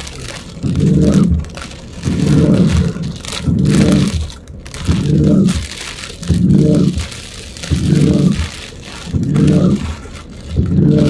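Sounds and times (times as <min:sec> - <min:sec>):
windshield wipers sweeping: 0:00.0 - 0:11.0.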